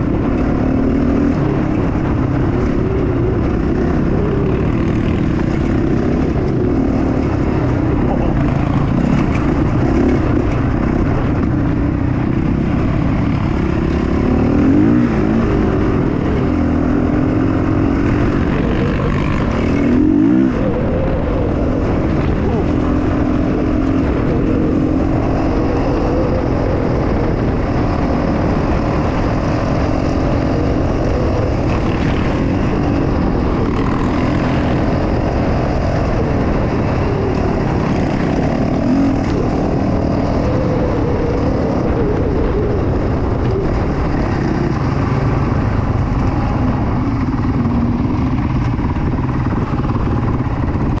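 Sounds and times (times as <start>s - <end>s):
motorcycle engine running: 0.0s - 51.0s
wind and road noise: 0.0s - 51.0s.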